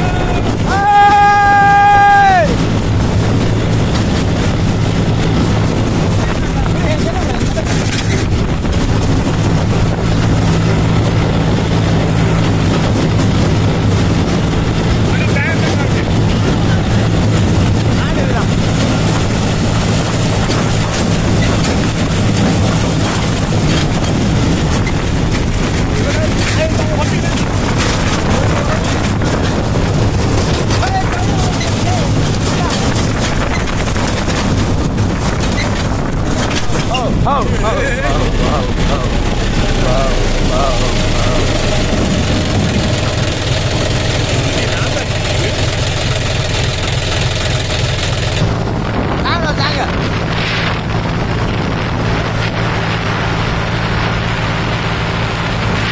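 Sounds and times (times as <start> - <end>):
tractor diesel engine running: 0.0 - 55.9
tyre noise on wet asphalt: 0.0 - 55.9.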